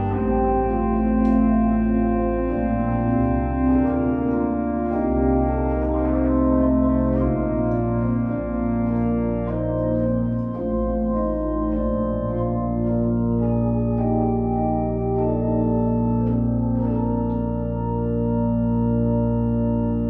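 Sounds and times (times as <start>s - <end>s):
organ playing sustained chords: 0.0s - 20.0s.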